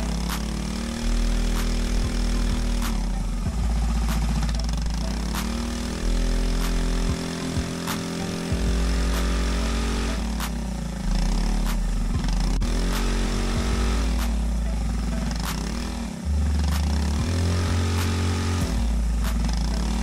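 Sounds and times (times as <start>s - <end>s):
kart engine running: 0.0s - 20.0s.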